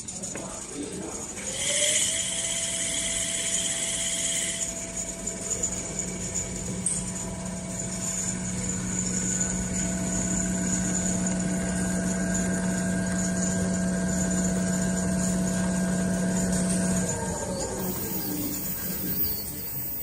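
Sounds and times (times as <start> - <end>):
sewing machine hum: 1.0 - 20.0.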